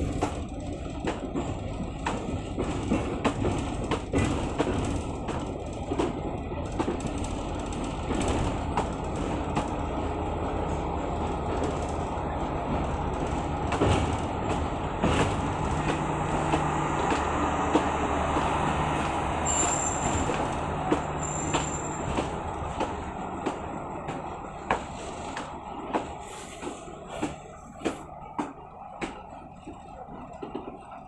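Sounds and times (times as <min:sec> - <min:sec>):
train rumbling on rails: 0:00.0 - 0:31.0
wheels clicking on track: 0:00.0 - 0:31.0.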